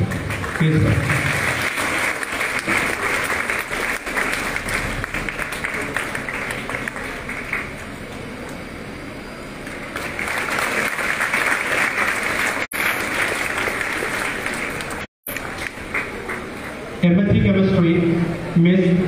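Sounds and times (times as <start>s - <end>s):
audience applauding: 0.0s - 8.0s, 9.6s - 17.0s.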